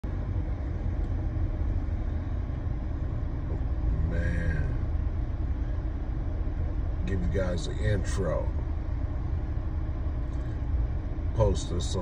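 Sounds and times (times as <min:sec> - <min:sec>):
road and engine rumble in car: 0:00.0 - 0:12.0.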